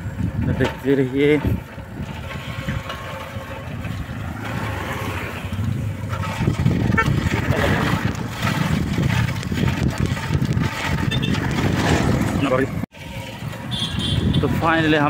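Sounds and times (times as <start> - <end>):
bicycle rumble on brick road: 0.0 - 15.0
wind buffeting microphone: 0.0 - 15.0.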